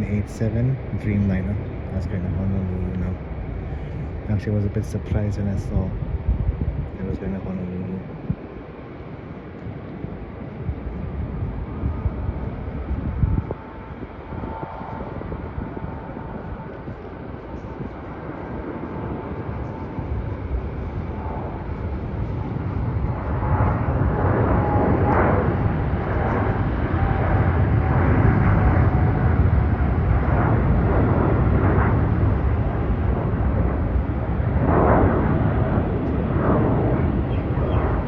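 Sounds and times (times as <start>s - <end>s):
jet engines deep rumble: 0.0s - 38.0s.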